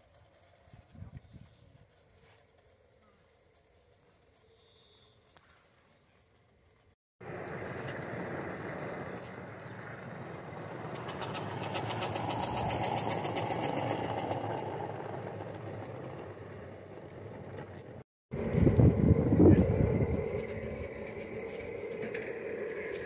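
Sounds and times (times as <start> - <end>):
miniature train running on track: 0.0 - 4.3, 7.3 - 18.6, 19.9 - 23.0.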